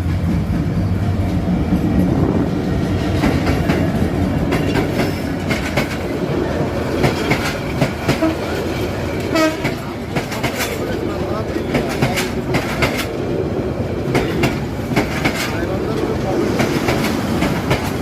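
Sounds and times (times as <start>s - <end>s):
train rumbling on rails: 0.0s - 18.0s
wheels clacking over rail joints: 0.0s - 18.0s.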